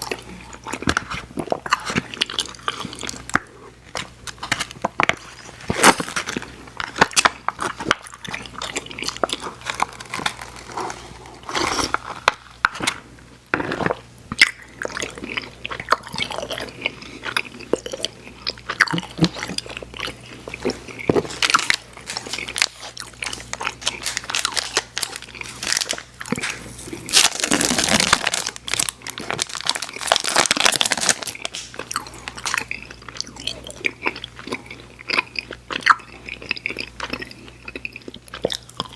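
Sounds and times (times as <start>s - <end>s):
chewing candy with mouth clicks: 0.0s - 10.8s, 14.3s - 38.9s.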